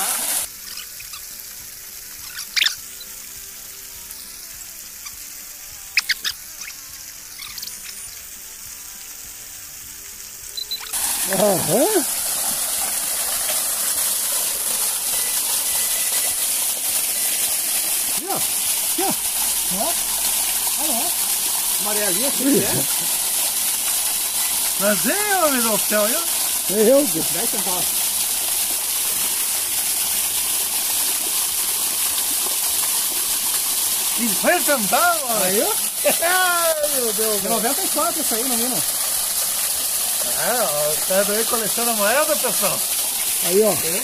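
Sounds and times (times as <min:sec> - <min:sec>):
creek water rushing: 0:00.0 - 0:06.8, 0:08.9 - 0:44.0.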